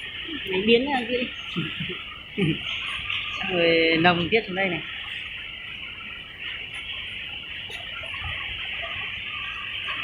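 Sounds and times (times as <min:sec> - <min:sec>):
insect chorus droning: 0:00.0 - 0:10.0.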